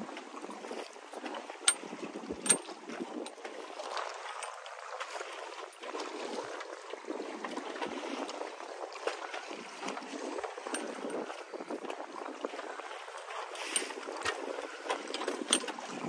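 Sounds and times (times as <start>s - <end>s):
water lapping and gurgling: 0.0s - 16.0s.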